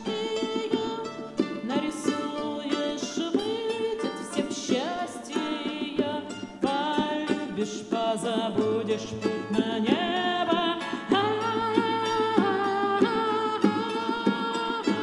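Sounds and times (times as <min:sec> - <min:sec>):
hand drums playing: 0:00.0 - 0:15.0
strummed acoustic guitars: 0:00.0 - 0:15.0.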